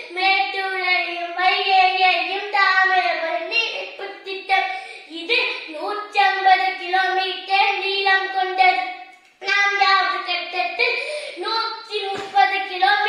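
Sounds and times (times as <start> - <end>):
boy reciting in sing-song voice: 0.0 - 13.0.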